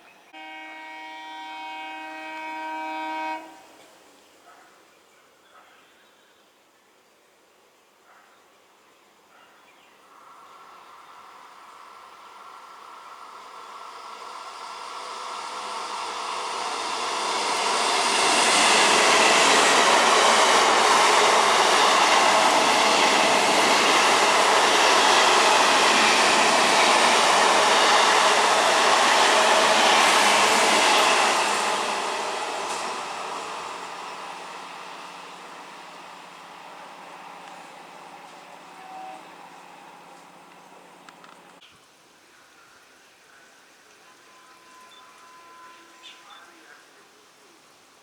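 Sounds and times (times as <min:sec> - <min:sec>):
train passing at speed: 0:00.0 - 0:04.4, 0:09.9 - 0:41.6, 0:44.0 - 0:46.8.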